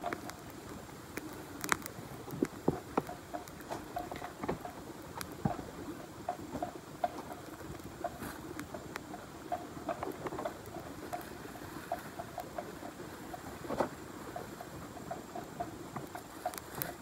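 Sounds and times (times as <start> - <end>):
soil pattering down: 0.0 - 14.4.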